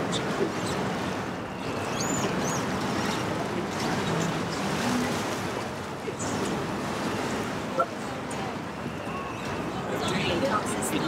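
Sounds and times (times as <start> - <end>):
outdoor background din: 0.0 - 11.0
faint crowd voices: 1.6 - 11.0.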